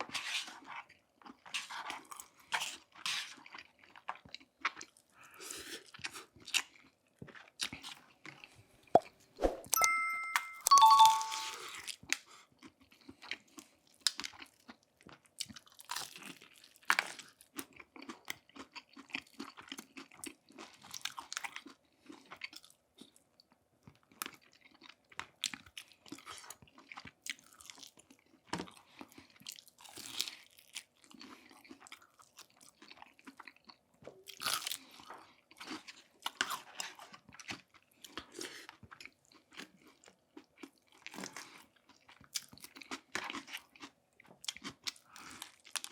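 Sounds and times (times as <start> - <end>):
chewing crisp fried food: 0.0 - 8.6, 12.6 - 45.9.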